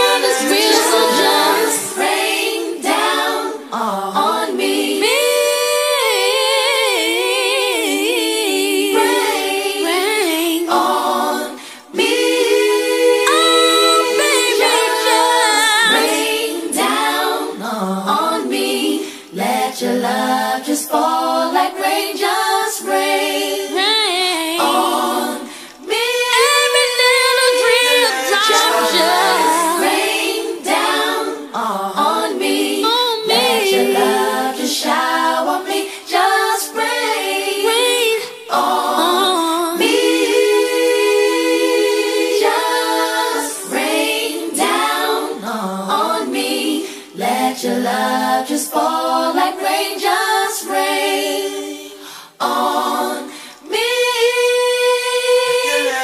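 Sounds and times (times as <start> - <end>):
female vocal group singing harmony: 0.0 - 56.0.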